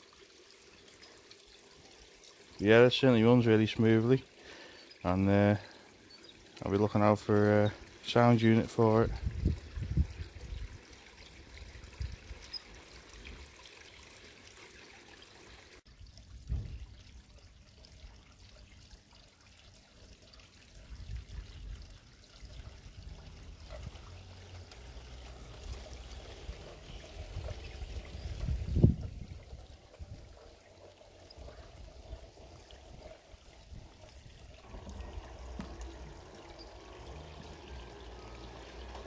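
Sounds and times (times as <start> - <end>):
pond water trickling: 0.0 - 39.0.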